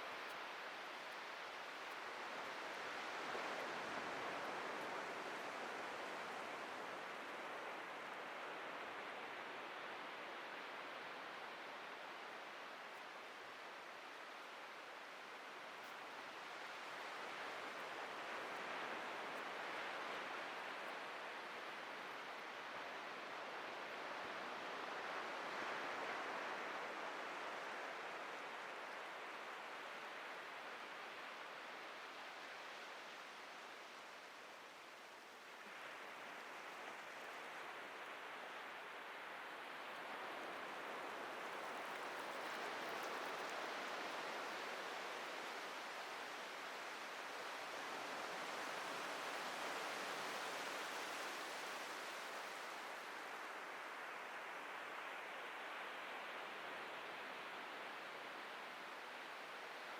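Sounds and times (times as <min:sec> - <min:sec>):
ocean surf on beach: 0:00.0 - 0:59.9.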